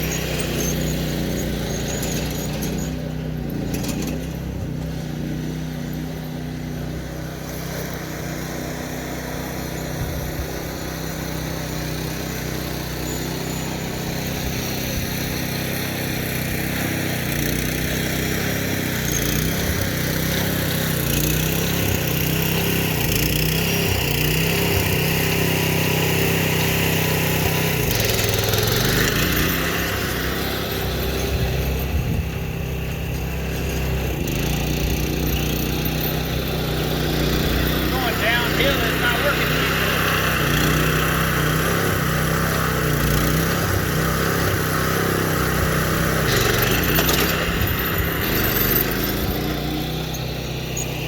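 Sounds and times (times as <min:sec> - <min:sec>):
small engine running: 0:00.0 - 0:51.0.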